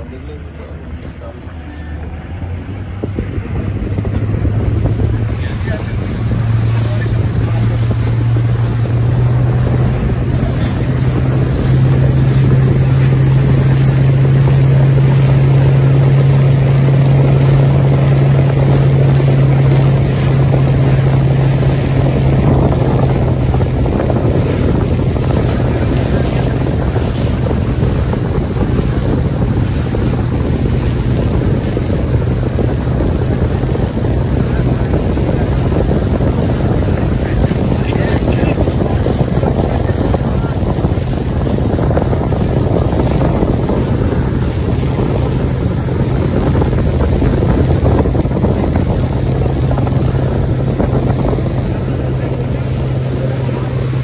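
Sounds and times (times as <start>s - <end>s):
motorboat engine droning: 0.0s - 54.0s
water rushing along hull: 0.0s - 54.0s
wind buffeting microphone: 0.0s - 54.0s.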